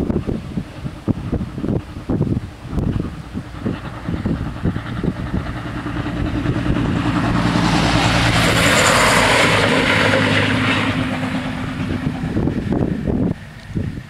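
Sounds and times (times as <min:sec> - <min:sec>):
diesel railcar engine drone: 0:00.0 - 0:14.0
wheels rumbling on rail: 0:00.0 - 0:14.0.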